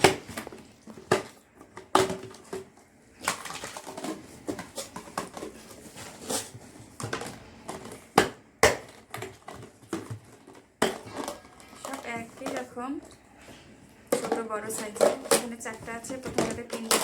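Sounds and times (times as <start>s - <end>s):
rustling and handling noise: 0.0s - 17.0s.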